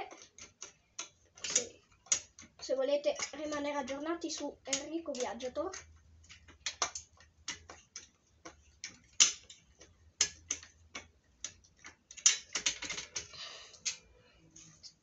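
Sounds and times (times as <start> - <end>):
metal on metal clicks and taps: 0.0 - 14.1.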